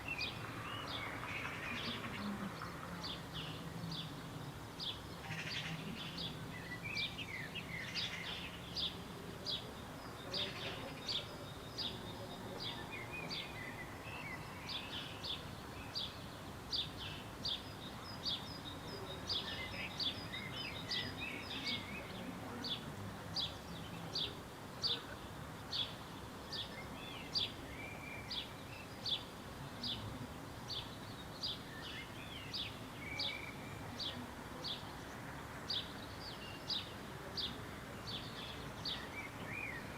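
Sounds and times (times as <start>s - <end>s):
bird chirping: 0.0s - 30.1s, 30.7s - 39.9s
faint background hiss: 0.0s - 39.9s.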